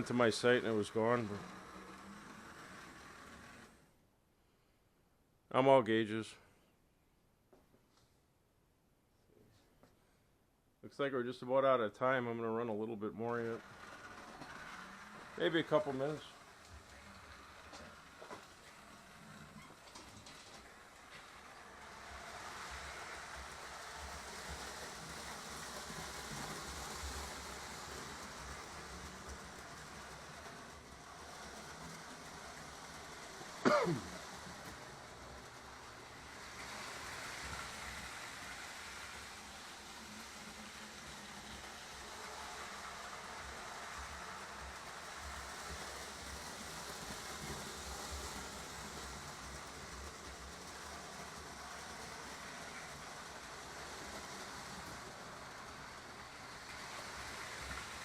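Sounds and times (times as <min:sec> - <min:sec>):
model train motor whir: 0:00.0 - 0:04.0, 0:13.2 - 0:58.0.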